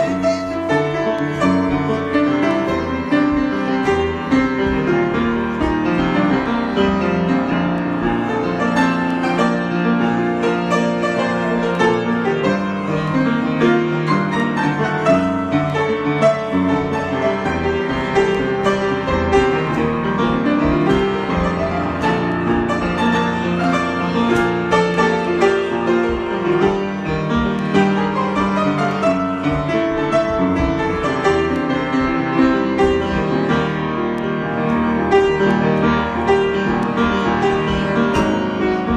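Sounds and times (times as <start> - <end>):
piano improvisation: 0.0 - 38.9.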